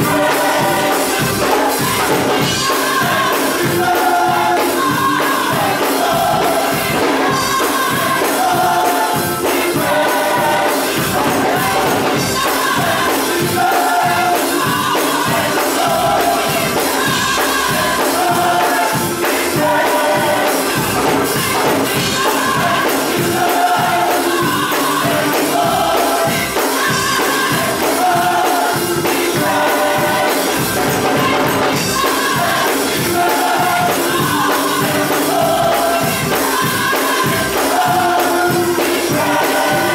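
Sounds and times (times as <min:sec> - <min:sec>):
gospel choir singing with band: 0:00.0 - 0:39.9.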